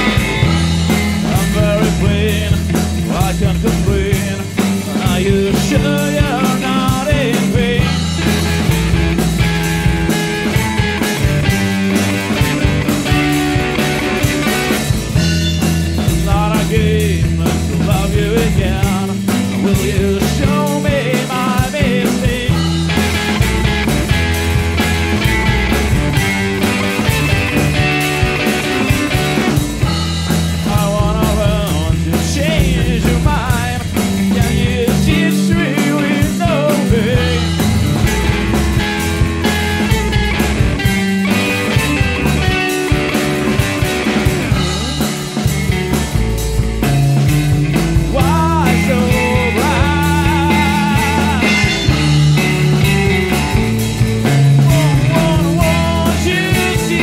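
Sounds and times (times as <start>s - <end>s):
rock band music: 0.0s - 57.0s.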